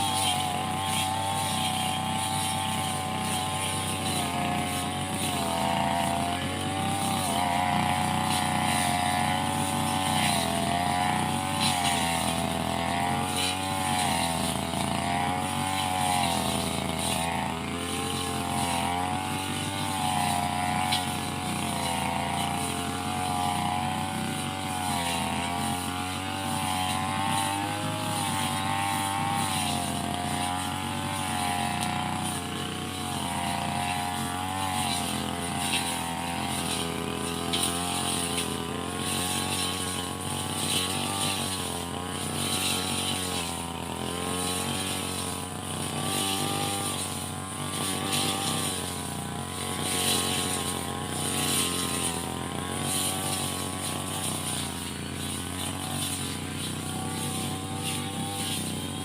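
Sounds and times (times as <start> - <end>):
brush cutter engine cutting grass: 0.0 - 59.0.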